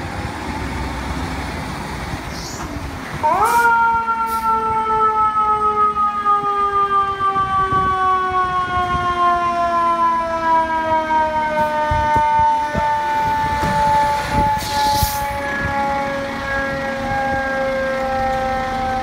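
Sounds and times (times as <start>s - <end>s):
fire truck siren wailing: 2.3s - 19.0s.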